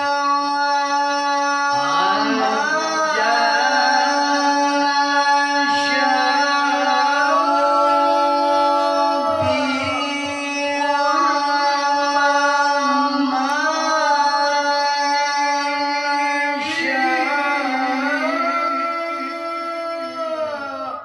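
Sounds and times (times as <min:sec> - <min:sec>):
man chanting melismatic notes: 0:00.0 - 0:21.0.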